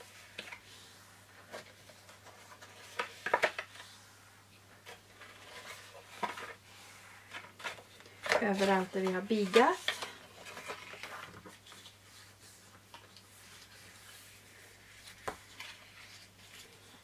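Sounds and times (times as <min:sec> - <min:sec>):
card folding crackles and rustles: 0:00.0 - 0:04.1, 0:04.7 - 0:17.0.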